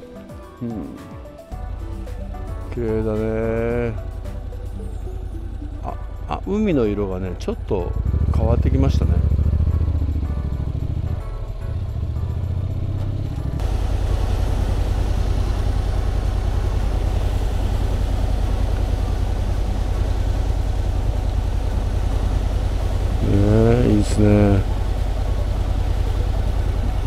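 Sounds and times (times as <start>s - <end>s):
motorcycle engine idling: 1.4s - 27.0s.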